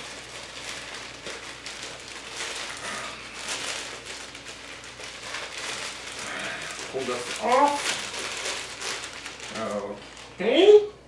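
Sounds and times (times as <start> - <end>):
plastic mailer bag crinkling: 0.0 - 10.7.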